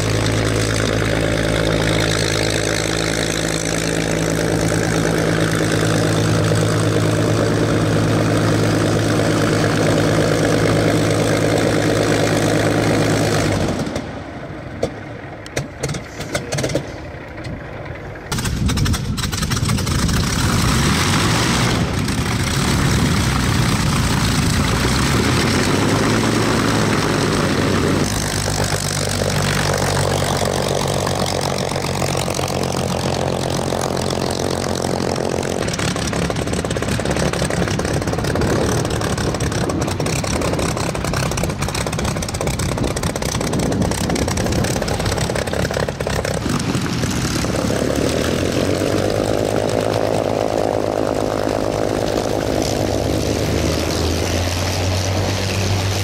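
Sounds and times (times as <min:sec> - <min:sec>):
piston aircraft engine running: 0:00.0 - 0:56.0.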